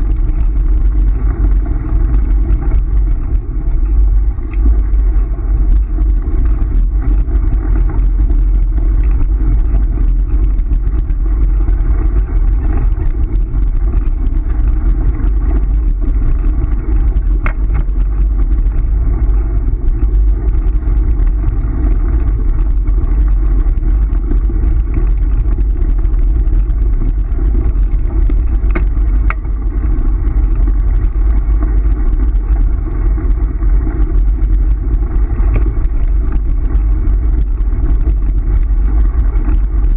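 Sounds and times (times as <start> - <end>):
scooter wheels rolling on gravel: 0.0 - 39.9
wind on microphone: 0.0 - 39.9.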